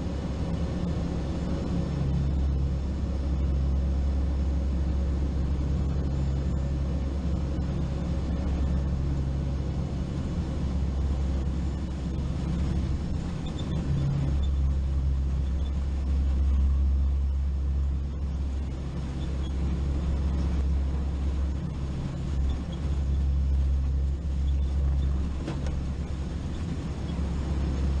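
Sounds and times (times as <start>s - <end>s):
aircraft engines droning in cabin: 0.0s - 28.0s.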